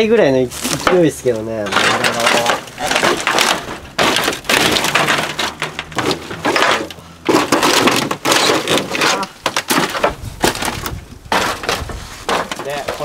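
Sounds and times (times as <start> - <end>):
boards and metal sheeting clattering: 0.5 - 13.0.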